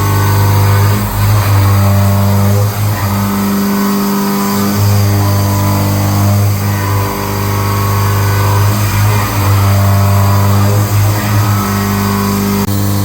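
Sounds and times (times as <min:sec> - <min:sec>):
milling machine motors humming: 0:00.0 - 0:13.0.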